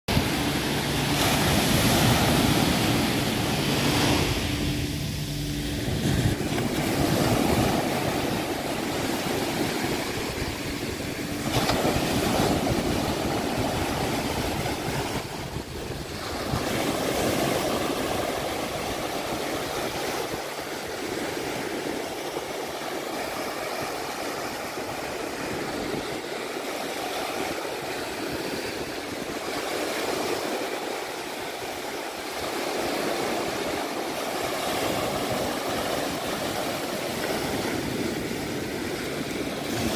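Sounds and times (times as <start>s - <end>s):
waves breaking on beach: 0.1s - 39.9s.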